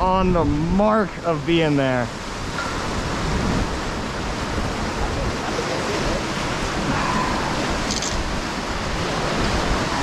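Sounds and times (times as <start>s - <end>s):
surf washing: 0.0s - 10.0s
wind: 0.0s - 10.0s.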